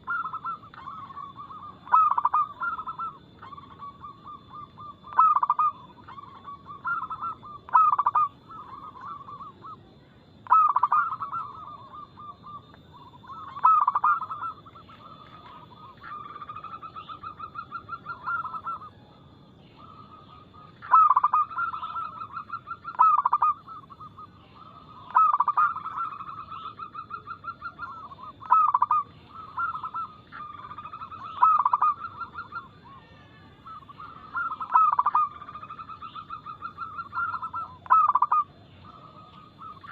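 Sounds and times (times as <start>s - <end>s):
doves cooing with rolling trill: 0.0s - 39.9s.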